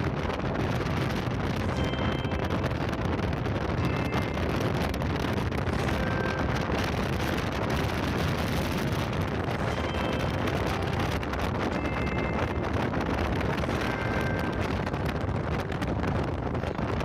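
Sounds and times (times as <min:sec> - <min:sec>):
low rumble: 0:00.0 - 0:17.0
wind rushing over microphone: 0:00.0 - 0:17.0.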